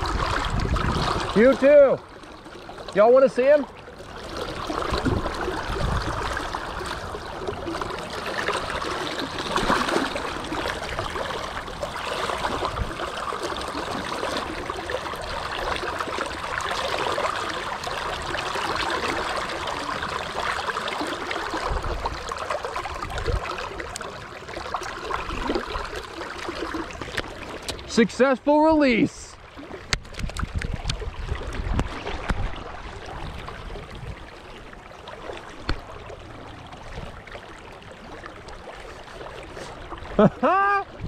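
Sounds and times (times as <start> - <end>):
river current rushing and gurgling: 0.0 - 41.0.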